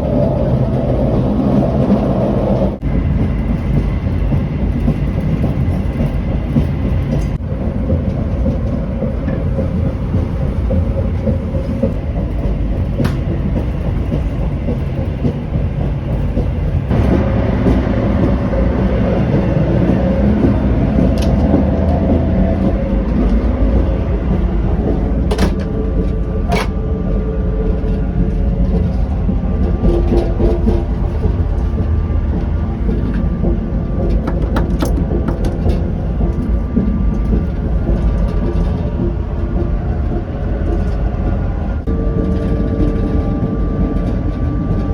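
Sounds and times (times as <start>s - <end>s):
train low rumble: 0.0s - 44.9s.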